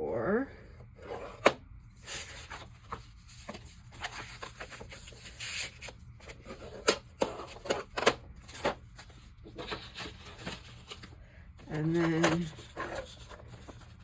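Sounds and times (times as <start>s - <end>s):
cardstock scraping and rustling: 0.9s - 14.0s.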